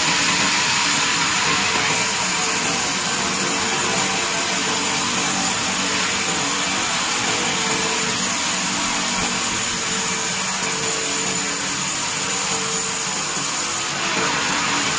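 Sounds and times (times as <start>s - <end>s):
band saw ripping timber: 0.0s - 14.9s
sawmill machine running: 0.0s - 14.9s.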